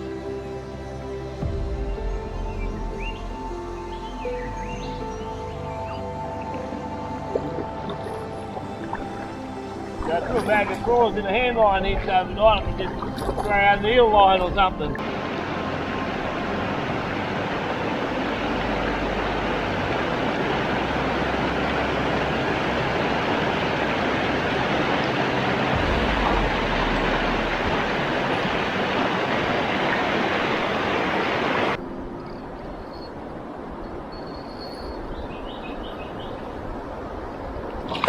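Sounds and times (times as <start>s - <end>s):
low rumble: 0.0s - 30.9s
river rapids rushing: 0.0s - 32.2s.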